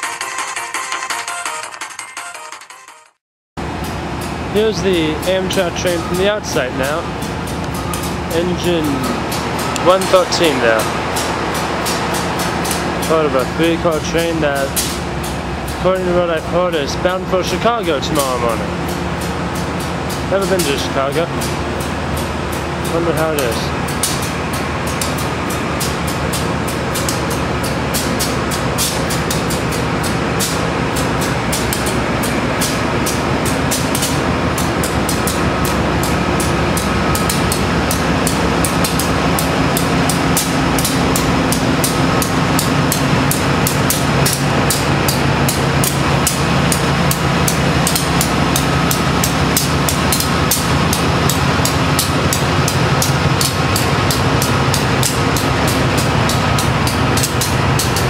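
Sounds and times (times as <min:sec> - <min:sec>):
diesel locomotive idling: 0:03.6 - 0:58.0.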